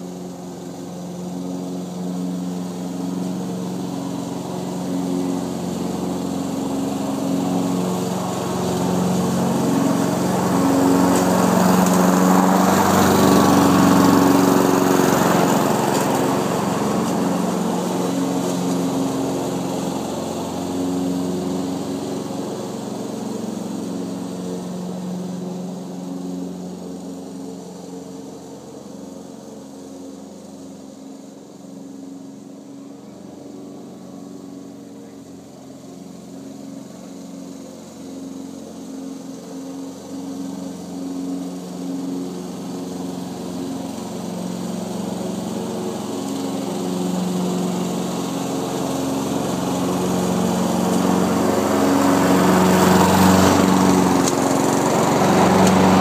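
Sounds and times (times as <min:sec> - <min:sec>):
lawn mower engine mowing grass: 0:00.0 - 0:56.0.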